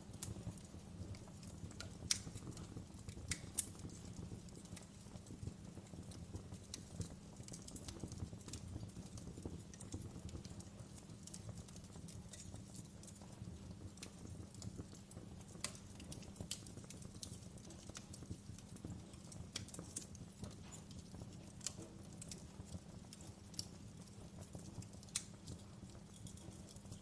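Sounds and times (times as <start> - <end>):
low rumble of flames: 0.0 - 27.0
wood fire popping and snapping: 0.0 - 27.0.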